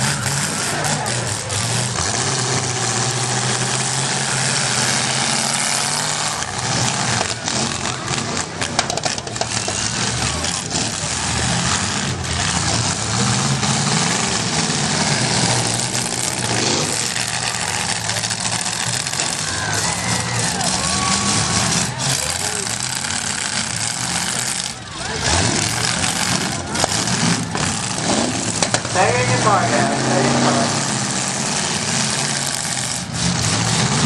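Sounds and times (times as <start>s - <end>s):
car engines revving: 0.0s - 34.0s
cars crashing together: 0.0s - 34.0s.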